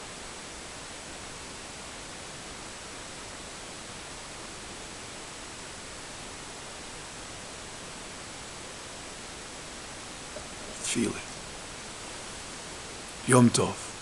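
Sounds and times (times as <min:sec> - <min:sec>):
background hiss: 0:00.0 - 0:14.0
faint high-pitched whine: 0:00.0 - 0:14.0.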